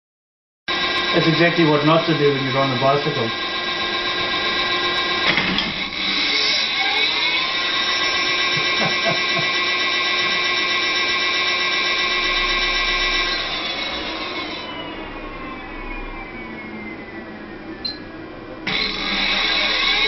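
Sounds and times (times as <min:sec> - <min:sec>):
electric hub motor whining: 0:00.7 - 0:20.0.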